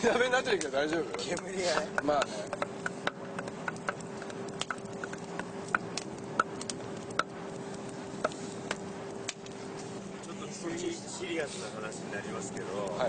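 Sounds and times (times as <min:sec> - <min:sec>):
bonfire crackling and popping: 0:00.0 - 0:13.0
faint steady hum: 0:00.0 - 0:13.0.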